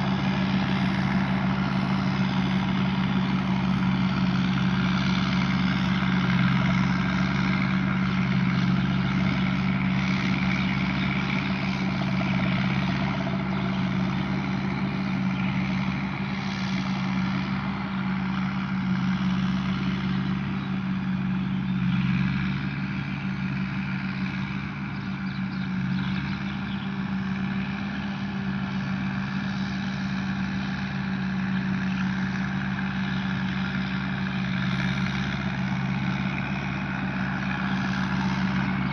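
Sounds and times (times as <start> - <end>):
machinery noise: 0.0 - 25.0, 25.7 - 38.9
diesel engine drone: 0.0 - 38.9.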